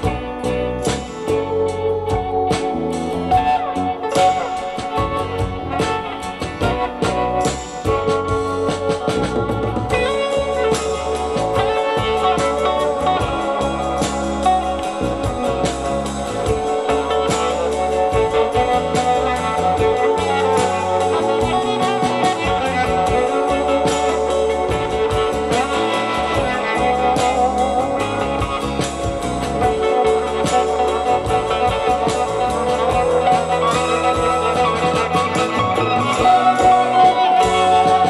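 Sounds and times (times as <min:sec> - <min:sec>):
guitar music through loudspeakers: 0:00.0 - 0:38.0.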